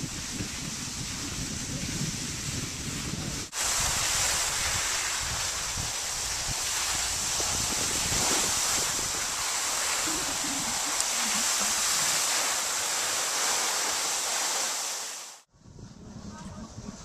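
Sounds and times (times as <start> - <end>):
wind rumbling on microphone: 0.0 - 13.4, 15.4 - 17.0
skis sliding over snow: 0.0 - 15.5.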